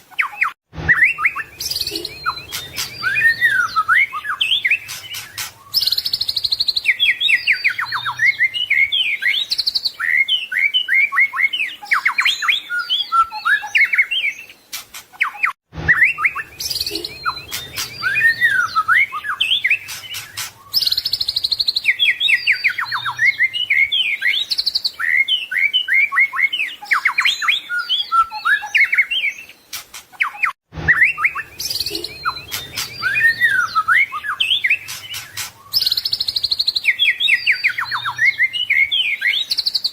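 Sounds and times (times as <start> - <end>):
songbird singing whistles and trills: 0.1 - 39.9.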